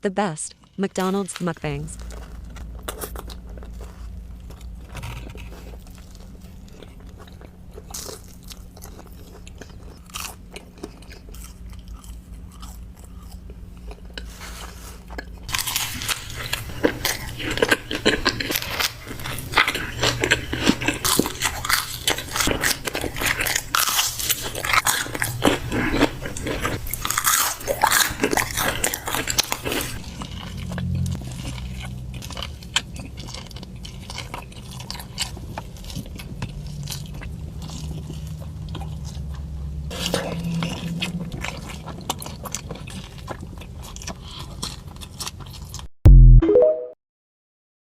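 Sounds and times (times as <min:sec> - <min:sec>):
crunchy bites and chewing: 0:01.1 - 0:45.9.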